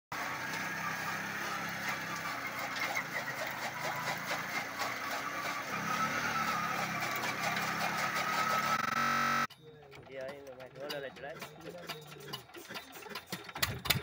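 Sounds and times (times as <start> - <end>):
single-cylinder engine running: 0.1 - 9.5, 10.2 - 14.0.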